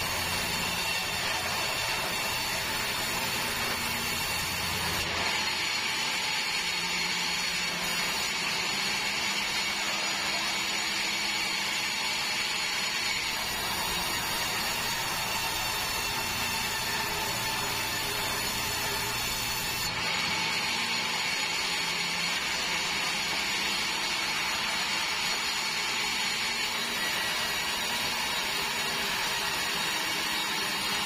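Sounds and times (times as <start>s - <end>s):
band saw cutting plank: 0.0s - 31.0s.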